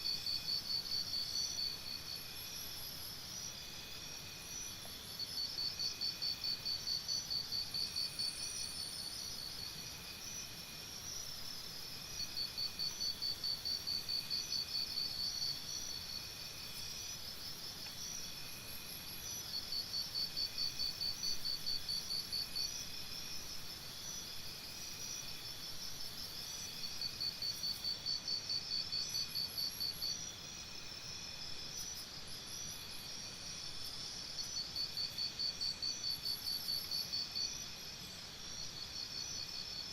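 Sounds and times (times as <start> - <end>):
high insect chirping: 0.0 - 39.9
loud pulsing insect trill: 0.0 - 39.9.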